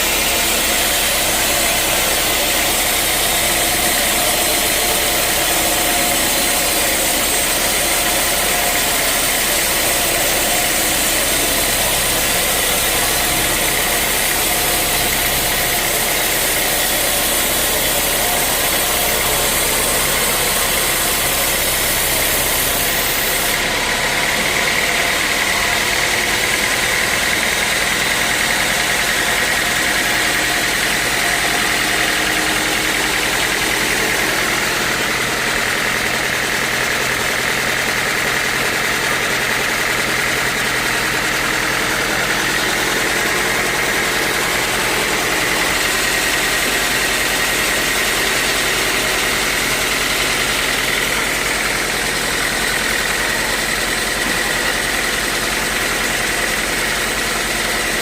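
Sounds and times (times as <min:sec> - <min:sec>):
high saw whine: 0:00.0 - 0:58.0
sawmill engine running: 0:00.0 - 0:58.0.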